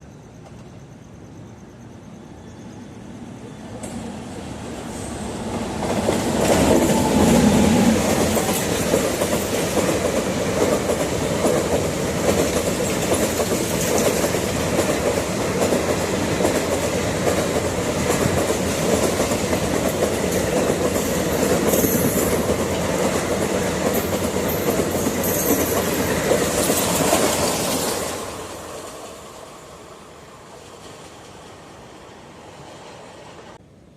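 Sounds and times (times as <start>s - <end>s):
train rumble: 2.9s - 33.7s.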